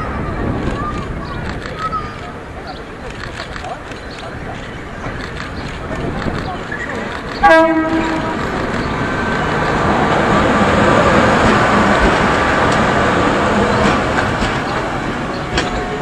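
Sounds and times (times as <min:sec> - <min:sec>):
train passing close by: 0:00.0 - 0:16.0
train wheel clicks: 0:03.0 - 0:16.0.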